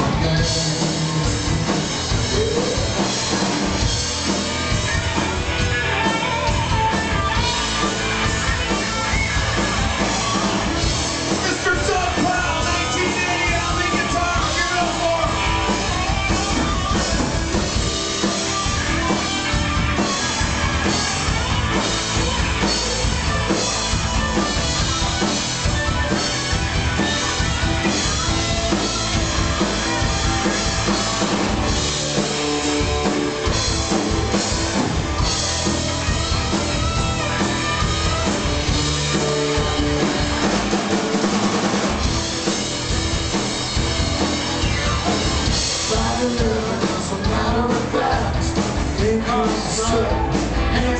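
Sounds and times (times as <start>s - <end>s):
drum kit beat: 0.0s - 50.9s
electric guitar: 0.0s - 50.9s.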